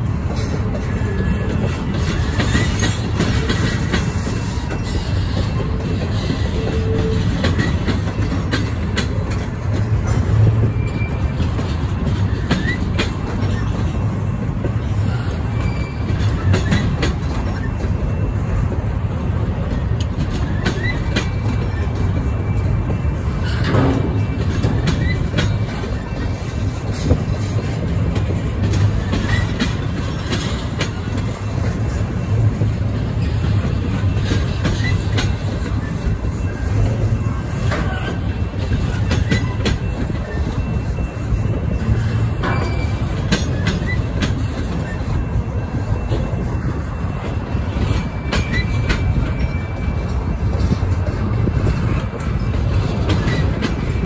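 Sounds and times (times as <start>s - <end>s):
train wheels rumbling on rail: 0.0s - 54.0s
wheels clicking over rail joints: 0.0s - 54.0s
wheel squeals: 0.3s - 54.0s.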